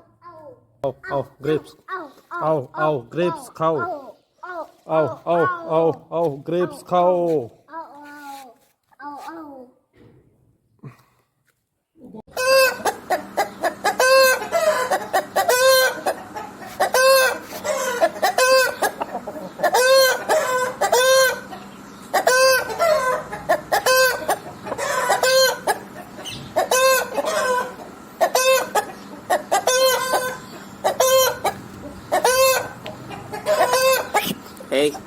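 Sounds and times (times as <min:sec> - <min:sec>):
chickens clucking: 0:00.0 - 0:07.3, 0:12.3 - 0:35.0.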